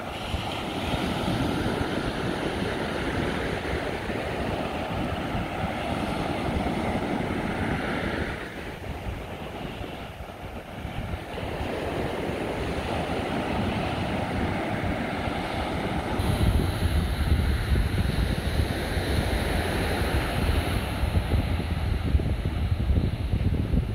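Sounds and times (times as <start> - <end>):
surf washing up a beach: 0.0 - 23.9
wind buffeting microphone: 0.0 - 23.9.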